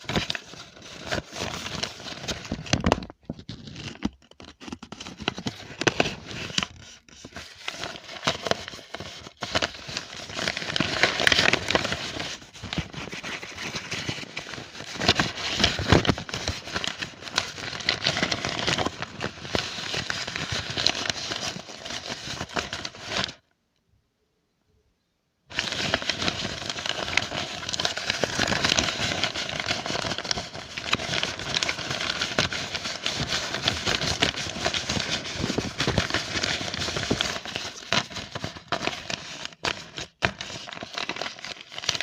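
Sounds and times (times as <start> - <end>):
crinkling crisp material: 0.0 - 23.4, 25.5 - 42.0.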